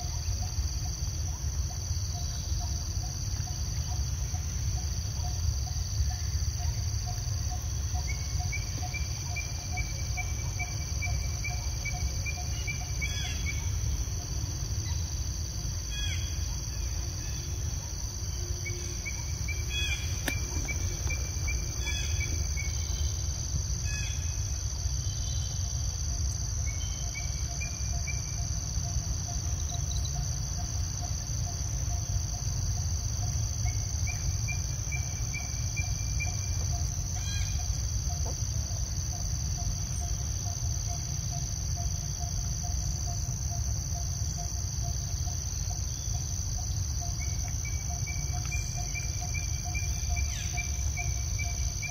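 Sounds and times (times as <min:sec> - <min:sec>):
faint steady hum: 0:00.0 - 0:51.9
insects droning: 0:00.0 - 0:51.9.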